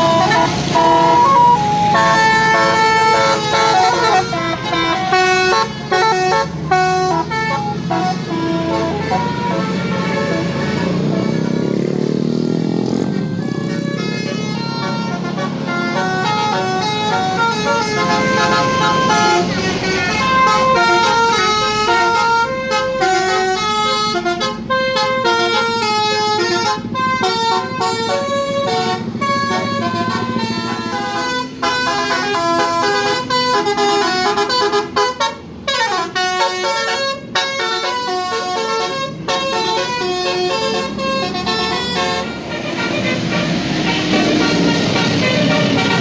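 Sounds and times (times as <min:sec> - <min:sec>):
bus horn playing a melody: 0:00.0 - 0:46.0.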